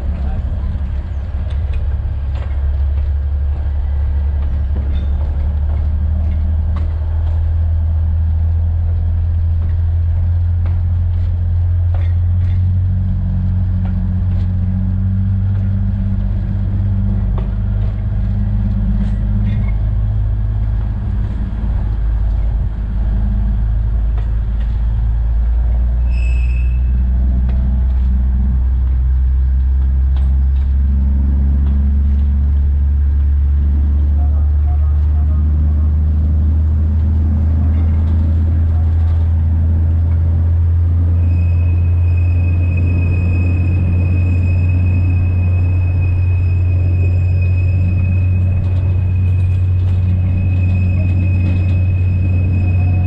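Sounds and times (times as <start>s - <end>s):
train engine drone: 0.0s - 53.0s.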